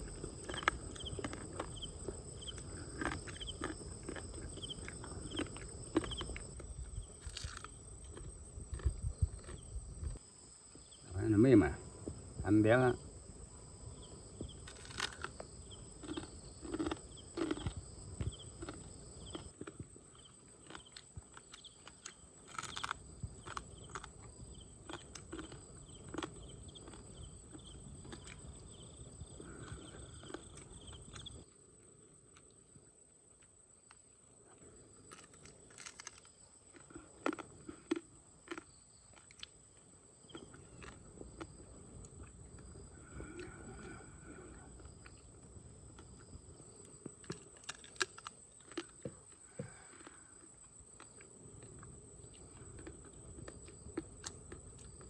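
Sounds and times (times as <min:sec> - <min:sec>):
crab shell crunching and chewing: 0:00.0 - 0:10.2, 0:14.4 - 0:31.6, 0:33.3 - 0:55.0.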